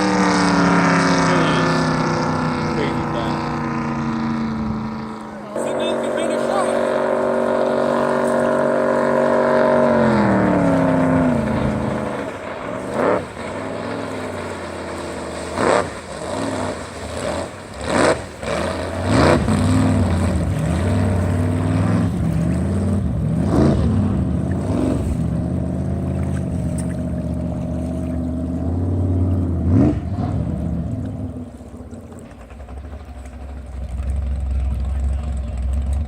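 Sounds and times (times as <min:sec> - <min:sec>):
boat engine revving: 0:00.0 - 0:36.0.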